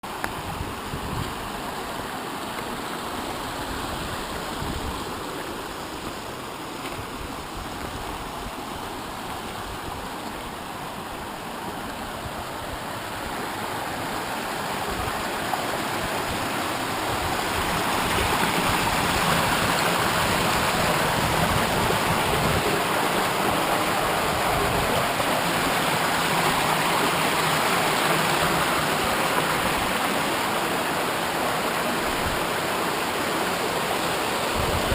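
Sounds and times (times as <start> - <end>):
stream and waterfall rushing: 0.0 - 34.9.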